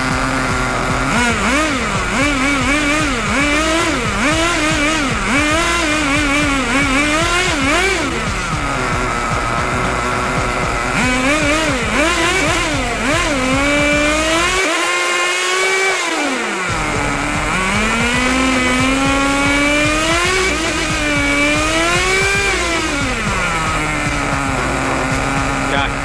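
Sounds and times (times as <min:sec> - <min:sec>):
small engine revving: 0:00.0 - 0:26.0.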